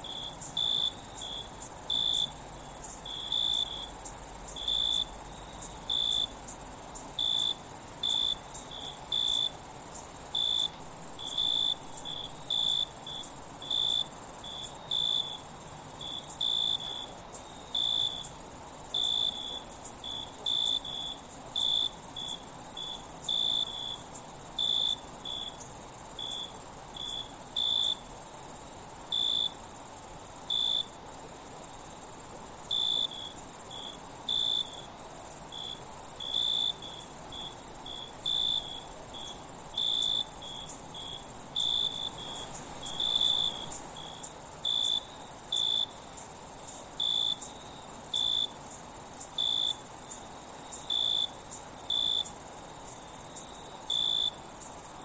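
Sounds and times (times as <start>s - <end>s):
cricket chirps: 0.0s - 55.0s
crickets trilling: 0.0s - 55.0s.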